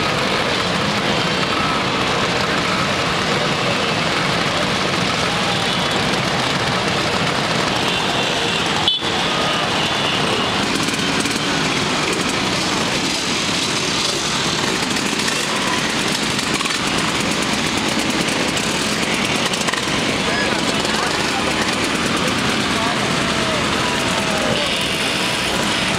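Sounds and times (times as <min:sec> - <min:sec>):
scooters riding past: 0:00.0 - 0:25.9.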